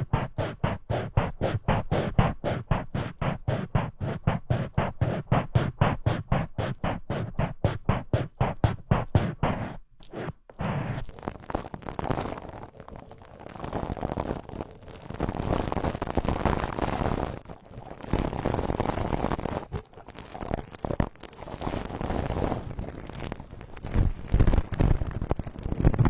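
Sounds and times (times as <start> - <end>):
brush swishing over microphone: 0.0 - 25.5.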